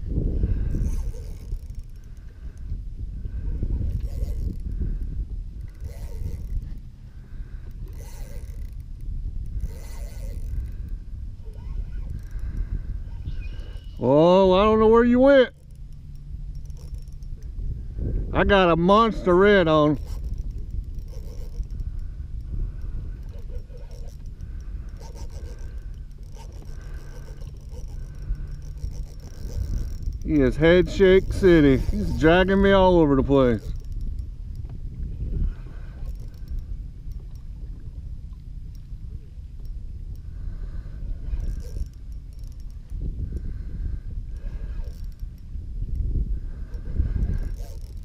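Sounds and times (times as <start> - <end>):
fishing reel mechanism noise: 0.0 - 48.0
wind rumble on microphone: 0.0 - 48.0.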